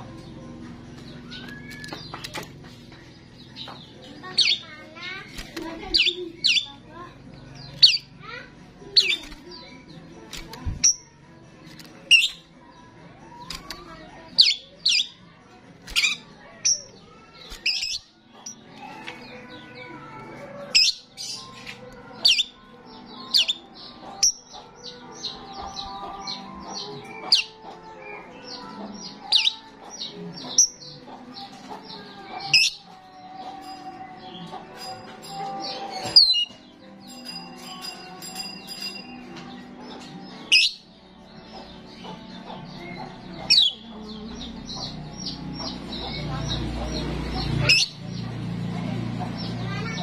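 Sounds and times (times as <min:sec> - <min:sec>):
low warbling chatter: 0:00.0 - 0:50.0.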